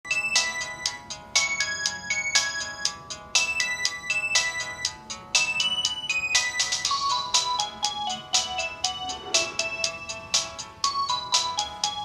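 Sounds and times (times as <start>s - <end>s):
electronic phone ringtone melody: 0.1s - 12.0s.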